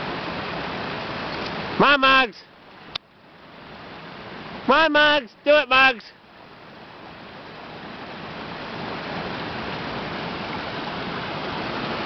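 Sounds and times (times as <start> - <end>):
mountain stream rushing over rocks: 0.0 - 12.0.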